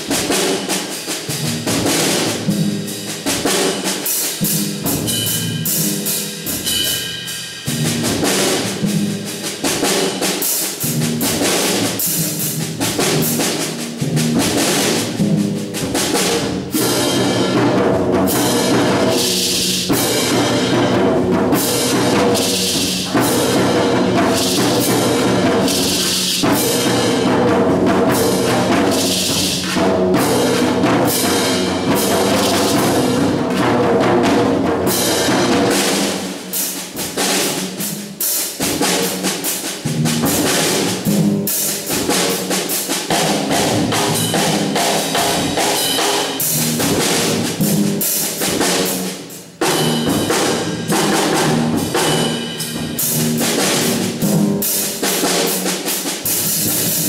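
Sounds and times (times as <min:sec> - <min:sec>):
percussion ensemble playing drums: 0:00.0 - 0:57.0.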